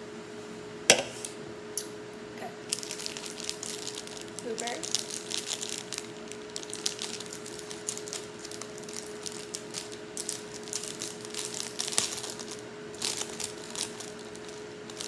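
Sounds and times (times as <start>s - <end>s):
steady low hum: 0.0s - 15.0s
plastic wrapper crinkling: 2.6s - 15.0s.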